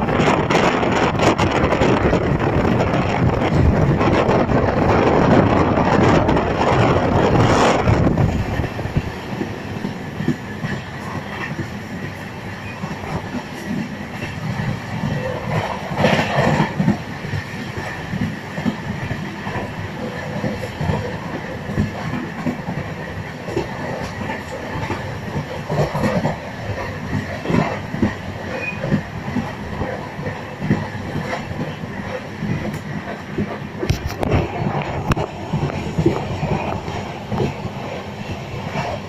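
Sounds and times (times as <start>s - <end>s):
wind and track noise rushing: 0.0s - 39.0s.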